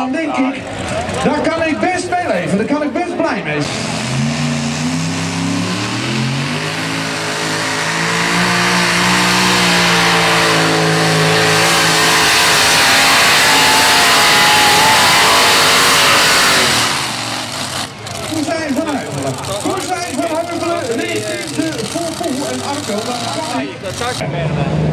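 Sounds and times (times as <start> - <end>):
tractor engine at full throttle: 0.0 - 24.9.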